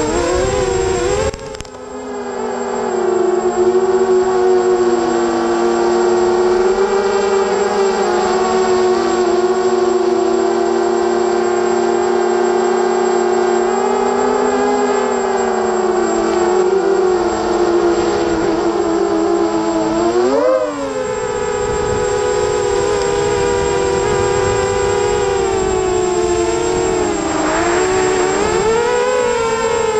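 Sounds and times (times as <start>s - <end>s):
drone motors whining: 0.0s - 29.9s.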